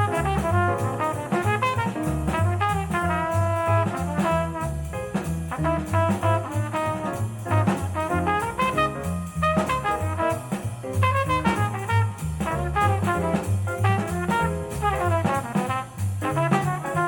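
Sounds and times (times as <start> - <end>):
swing jazz with brass and bass: 0.0 - 17.0.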